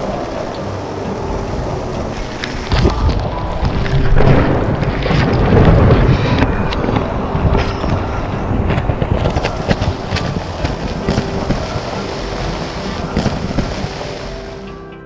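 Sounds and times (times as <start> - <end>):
wind gusts buffeting microphone: 0.0 - 14.6
rain: 0.0 - 14.8.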